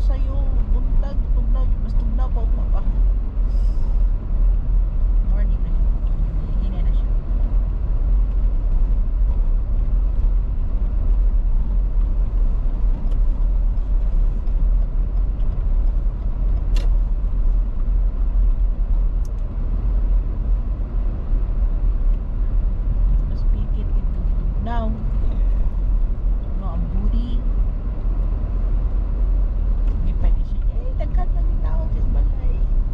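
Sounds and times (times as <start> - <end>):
car tyre and engine rumble: 0.0 - 32.9.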